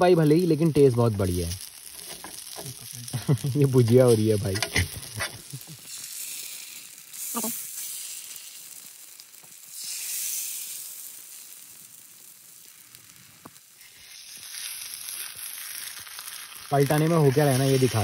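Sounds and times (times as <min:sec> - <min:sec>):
batter sizzling in hot pan: 0:00.0 - 0:18.0.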